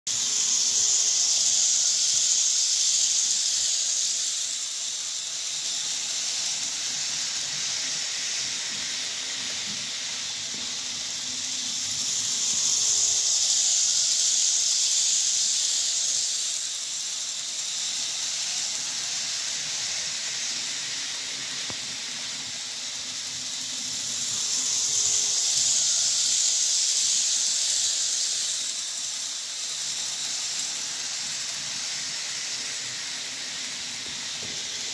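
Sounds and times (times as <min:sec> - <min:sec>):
model train hissing on rails: 0:00.1 - 0:34.9.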